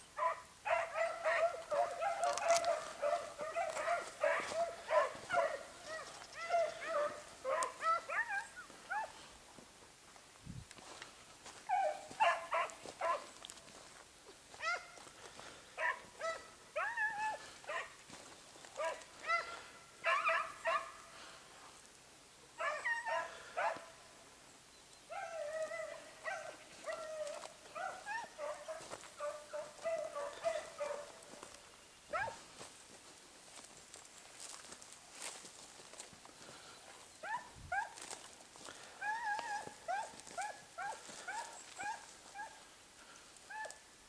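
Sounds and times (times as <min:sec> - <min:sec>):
hounds baying: 0:00.2 - 0:09.4, 0:10.8 - 0:13.9, 0:14.5 - 0:21.5, 0:22.6 - 0:24.1, 0:25.0 - 0:32.7, 0:34.4 - 0:43.9.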